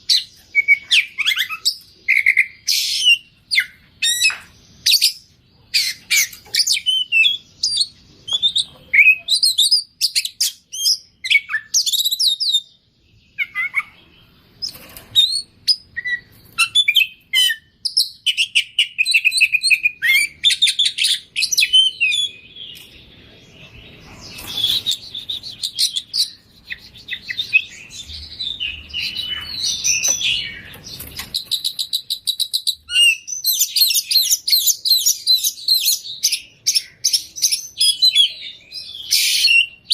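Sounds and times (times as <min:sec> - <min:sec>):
songbird singing whistles and trills: 0:00.0 - 0:23.0, 0:24.4 - 0:39.9.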